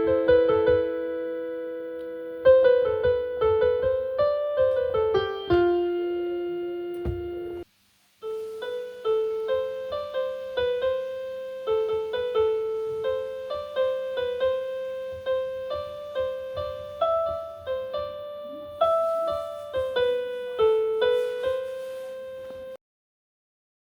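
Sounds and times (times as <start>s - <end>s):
simple keyboard melody: 0.0s - 22.8s.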